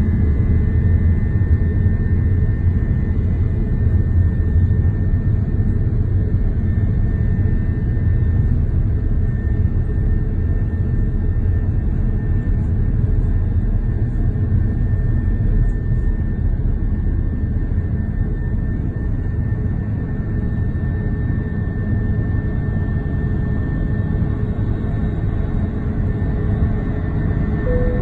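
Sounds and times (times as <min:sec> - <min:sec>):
jet engines and wheels rumbling: 0:00.0 - 0:28.0
thin steady whine: 0:00.0 - 0:28.0.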